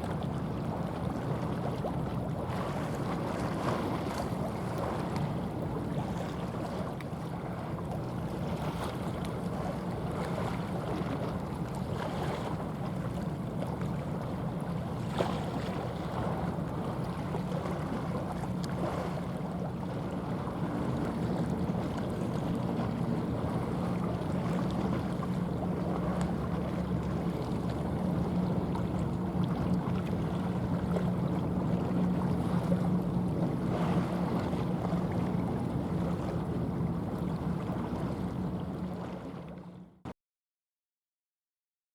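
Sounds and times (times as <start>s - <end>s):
ship engine hum: 0.0s - 40.0s
water noise: 0.0s - 40.1s
wind: 0.0s - 40.1s.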